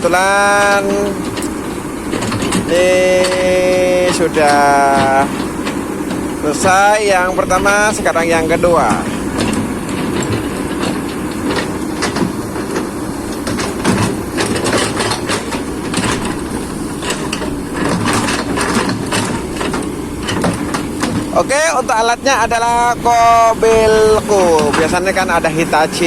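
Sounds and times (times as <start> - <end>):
diesel engine rumble: 0.0 - 26.0
metallic clanks and clicks: 0.0 - 26.0.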